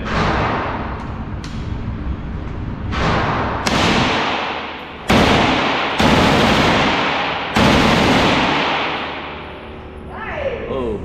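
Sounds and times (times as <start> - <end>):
echoing indoor gunshots: 0.0 - 10.0.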